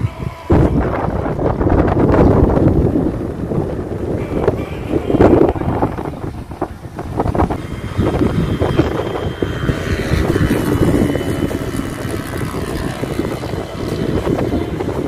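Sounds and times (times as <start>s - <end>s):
model airplane motor whine: 0.0s - 15.0s
wind buffeting microphone: 0.0s - 15.0s.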